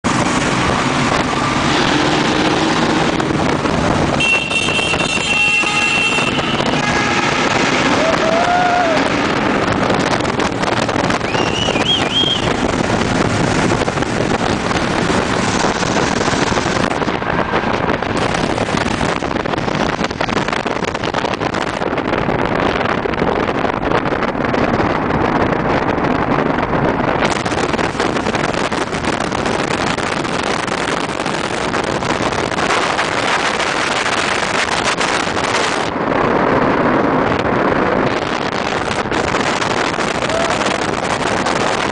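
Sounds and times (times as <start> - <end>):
motorcycle engines running: 0.0 - 41.9
wind noise on microphone: 0.0 - 41.9.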